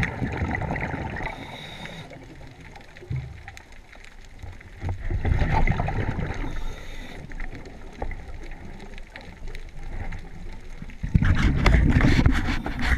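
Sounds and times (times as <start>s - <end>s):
crackling and scraping: 0.0s - 12.9s
muffled underwater rumble: 0.0s - 12.9s.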